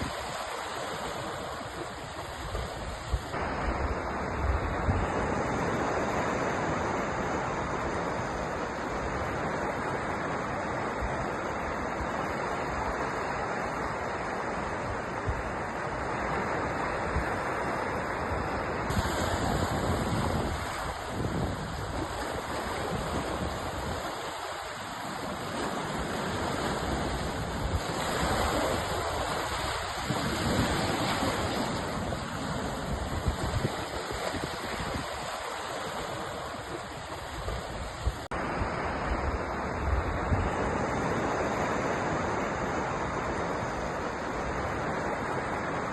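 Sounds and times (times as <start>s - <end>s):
wind buffeting microphone: 0.0s - 6.0s, 13.9s - 45.9s
sea surf washing on shore: 0.0s - 45.9s.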